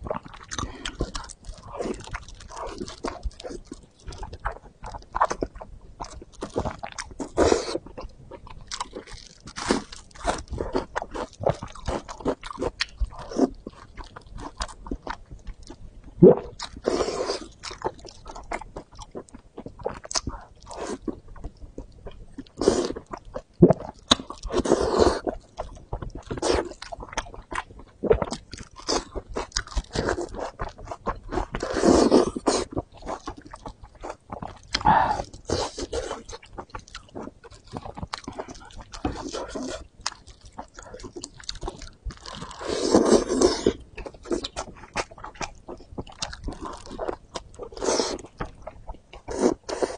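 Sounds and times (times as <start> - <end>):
close chewing and biting: 0.0 - 49.9.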